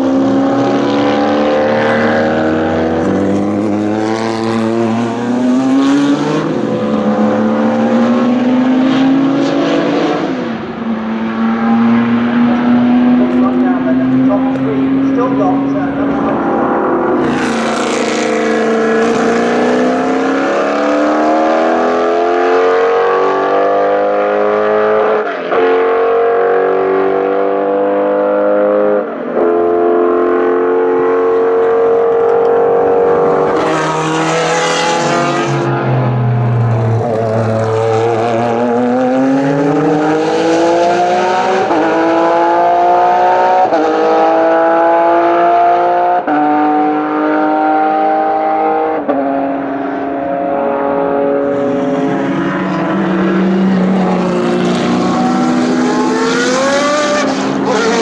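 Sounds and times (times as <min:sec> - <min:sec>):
racing car engines accelerating: 0:00.0 - 0:58.0.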